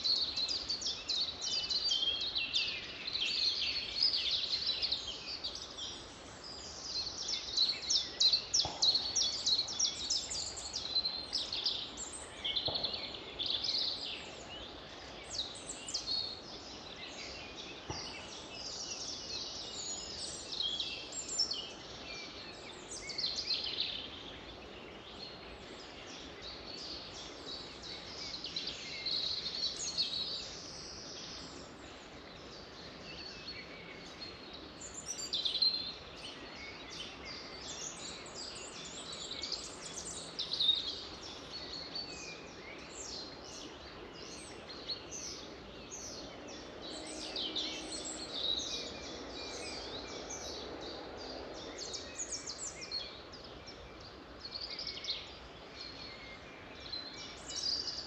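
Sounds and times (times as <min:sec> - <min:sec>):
faint background hiss: 0:00.0 - 0:58.0
songbirds singing and chirping: 0:00.0 - 0:58.0.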